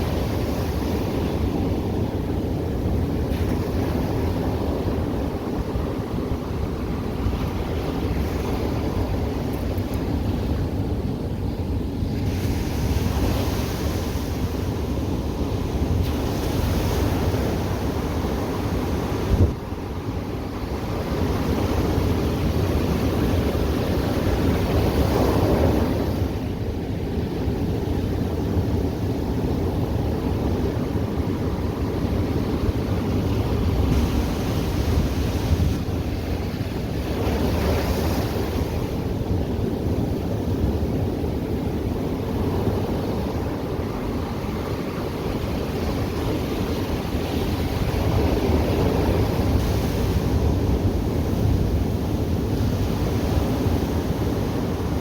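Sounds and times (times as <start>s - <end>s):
ocean surf washing on beach: 0.0s - 55.0s
wind rumbling on microphone: 0.0s - 55.0s.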